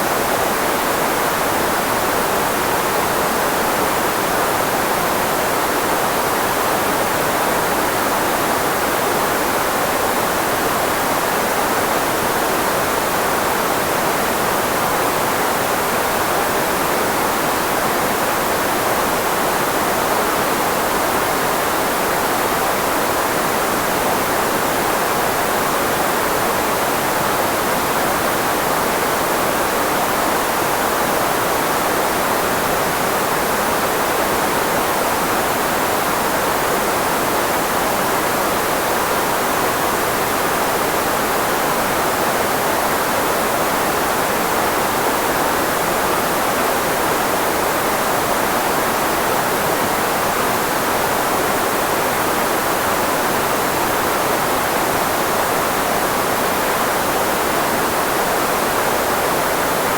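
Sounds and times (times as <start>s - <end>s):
filtered white noise hiss: 0.0s - 59.9s.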